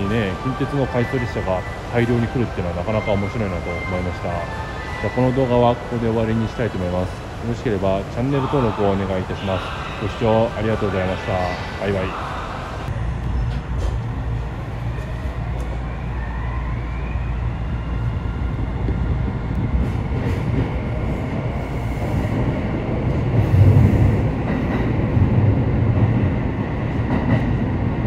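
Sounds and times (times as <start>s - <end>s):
train wheels rumbling in tunnel: 0.0s - 28.0s.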